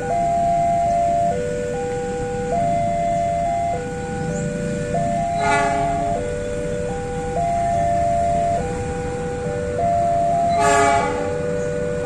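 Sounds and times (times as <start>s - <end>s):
level crossing warning alarm: 0.0s - 12.0s.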